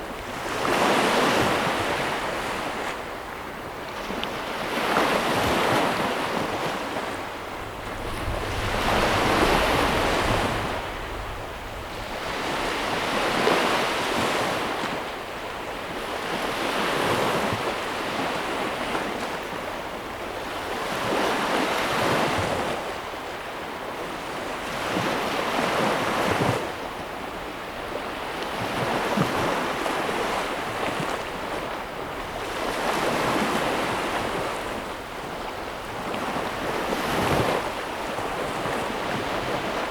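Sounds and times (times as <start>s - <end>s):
ocean waves surging and washing back: 0.0s - 39.9s.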